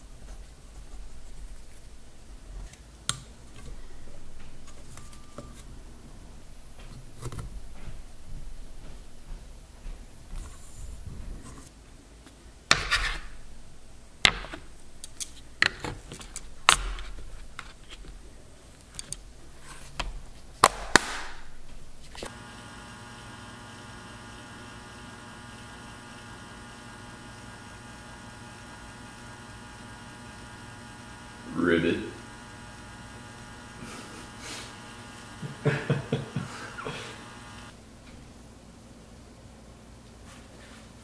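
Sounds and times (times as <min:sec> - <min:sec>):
steady electrical hum: 0:00.0 - 0:41.0.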